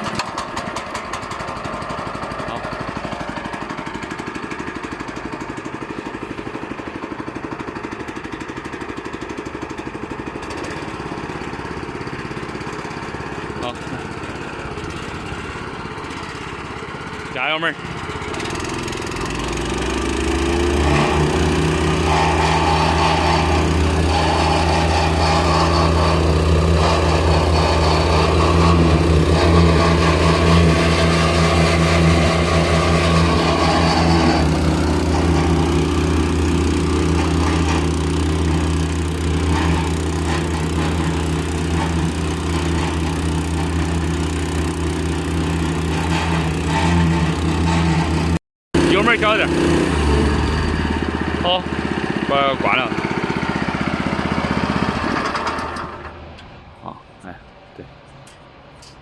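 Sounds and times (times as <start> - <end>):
road roller engine revving: 0.0 - 56.8.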